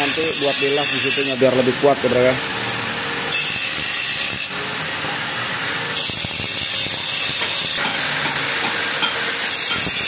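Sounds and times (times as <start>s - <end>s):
angle grinder cutting metal: 0.0s - 10.0s.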